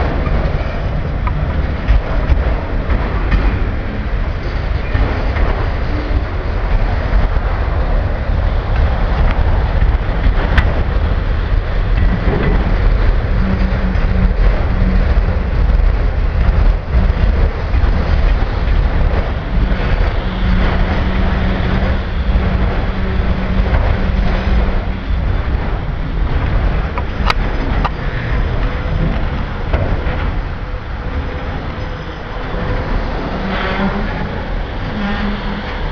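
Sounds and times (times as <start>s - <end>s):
freight train rumbling past: 0.0s - 35.9s.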